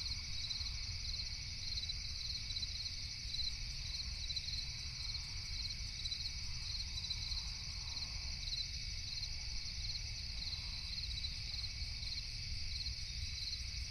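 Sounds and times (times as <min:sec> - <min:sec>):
insects trilling and chirping: 0:00.0 - 0:13.9.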